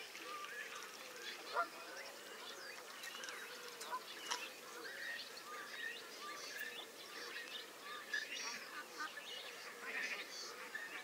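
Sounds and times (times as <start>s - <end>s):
birds chirping and calling: 0.1s - 11.0s.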